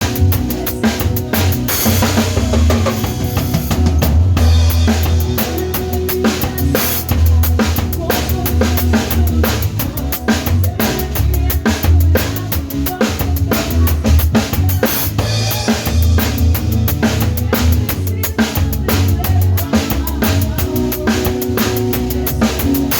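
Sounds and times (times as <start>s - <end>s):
band backing track: 0.0s - 22.9s.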